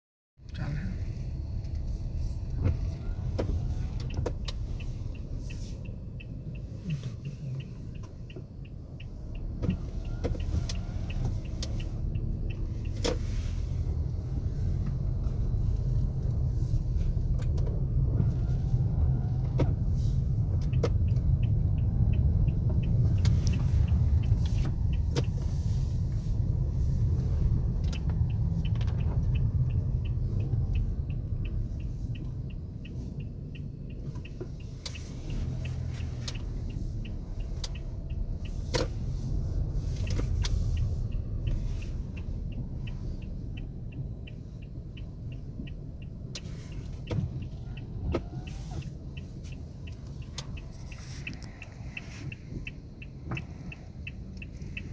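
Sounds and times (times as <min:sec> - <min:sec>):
car cabin rumble: 0:00.4 - 0:54.9
regular ticking: 0:01.3 - 0:54.9.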